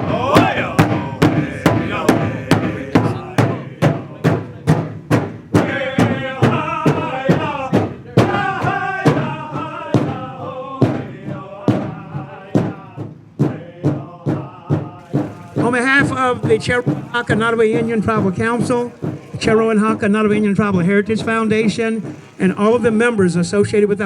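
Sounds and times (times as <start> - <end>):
group singing: 0.0 - 4.6, 5.5 - 22.9
drum beating steadily: 0.0 - 23.2.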